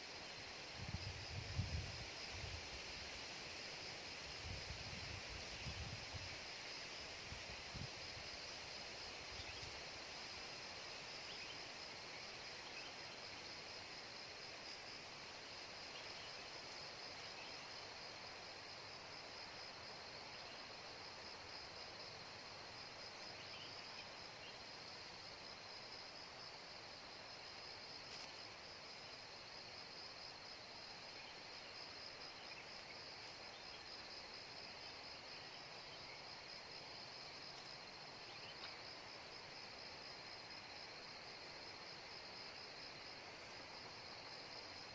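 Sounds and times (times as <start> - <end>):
insect chorus buzzing: 0.0 - 44.9
soft outdoor hiss: 0.0 - 44.9.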